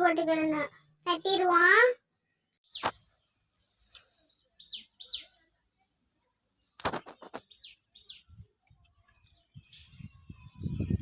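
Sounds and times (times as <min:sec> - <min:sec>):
bird chirping: 0:02.0 - 0:11.0.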